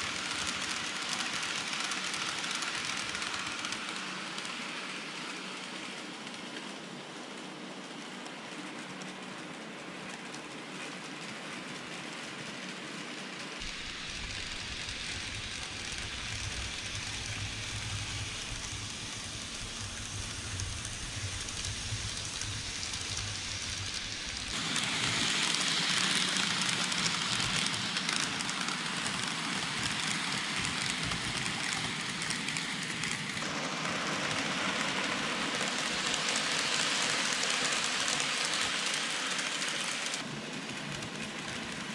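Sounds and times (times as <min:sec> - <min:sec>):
model train wheels rolling on rails: 0:00.0 - 0:41.9.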